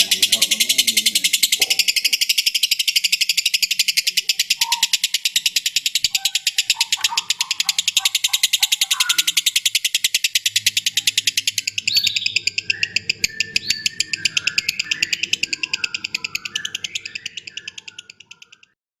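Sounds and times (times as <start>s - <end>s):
lovebirds chirping: 0.0s - 18.8s
squeaks and warbling calls: 0.0s - 18.8s.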